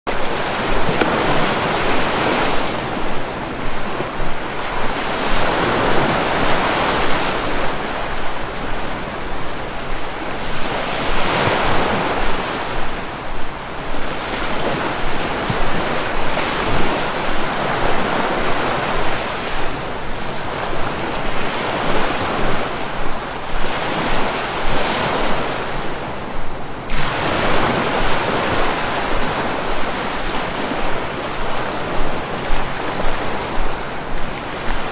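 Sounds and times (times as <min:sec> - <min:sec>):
sea waves breaking ashore: 0:00.1 - 0:34.9.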